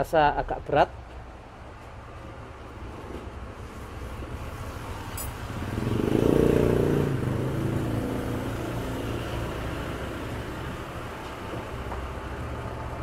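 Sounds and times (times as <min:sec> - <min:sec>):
vehicle engine: 0:02.0 - 0:13.0.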